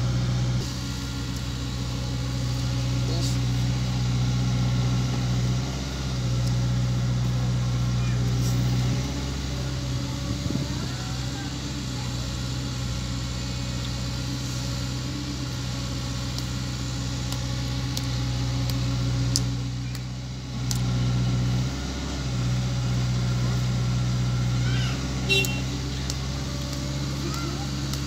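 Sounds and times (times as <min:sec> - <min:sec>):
excavator diesel engine running: 0:00.0 - 0:28.0
truck engine idling: 0:00.0 - 0:28.0.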